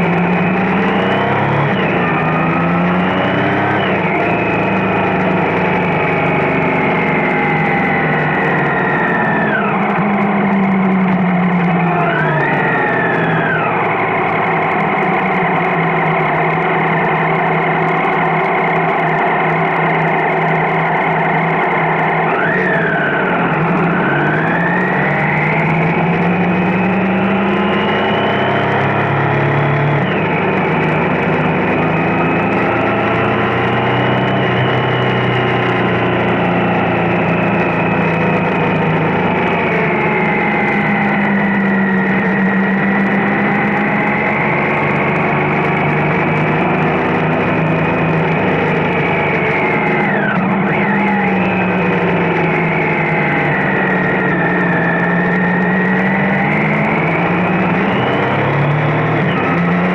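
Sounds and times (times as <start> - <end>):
vehicle engine accelerating: 0.0 - 59.9.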